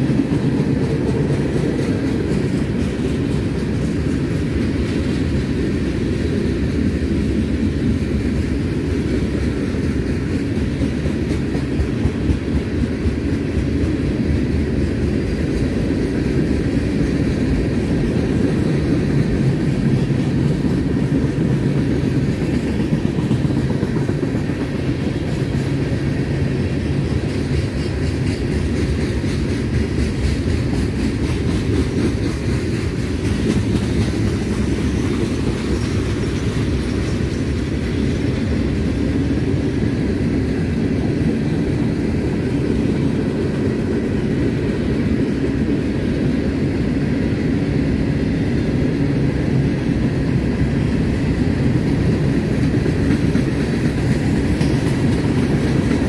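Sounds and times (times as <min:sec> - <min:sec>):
train cars rumbling past: 0:00.0 - 0:56.0.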